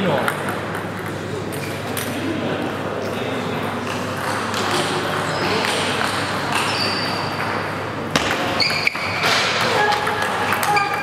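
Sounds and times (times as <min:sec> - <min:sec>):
murmur of voices: 0:00.0 - 0:11.0.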